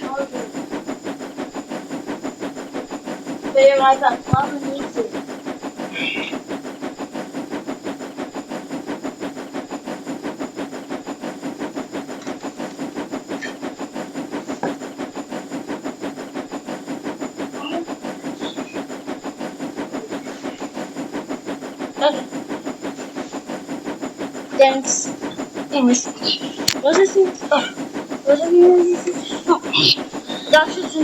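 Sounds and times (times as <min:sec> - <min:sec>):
small motor chugging: 0:00.0 - 0:31.0.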